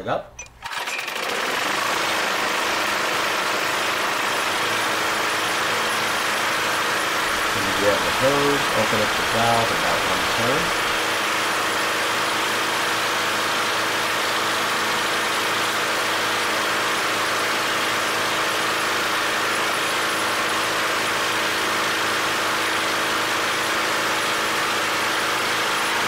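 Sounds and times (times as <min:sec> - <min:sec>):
lawn mower engine running: 0:00.5 - 0:26.0.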